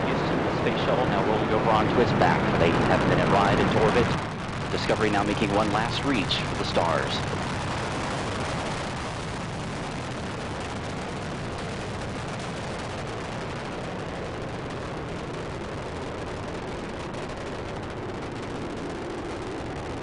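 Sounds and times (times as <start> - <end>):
rocket engines rumbling with crackle: 0.0 - 20.0.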